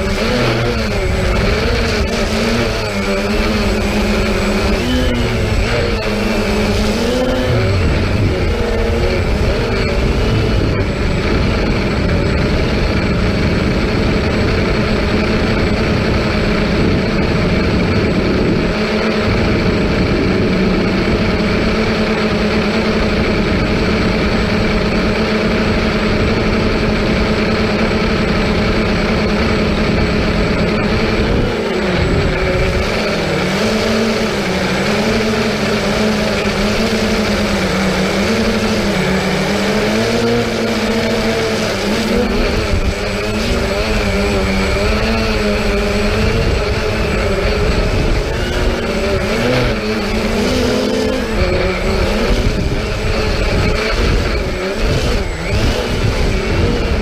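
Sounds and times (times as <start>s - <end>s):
drone propellers whirring: 0.0s - 57.0s.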